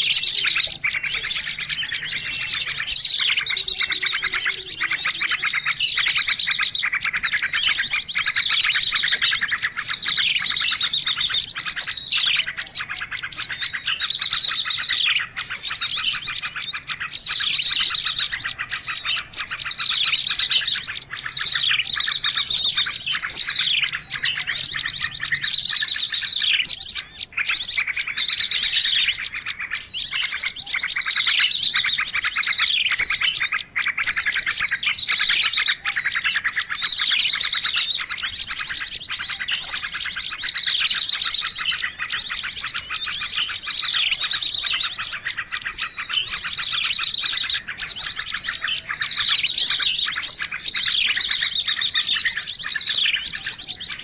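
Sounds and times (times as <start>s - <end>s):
high downward-sweeping bird call: 0.0s - 54.0s
songbirds buzzy trill: 0.0s - 54.0s.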